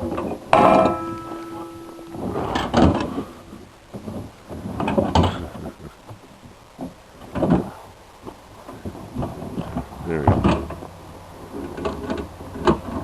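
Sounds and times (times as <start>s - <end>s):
log knocking and scraping: 0.0s - 10.9s.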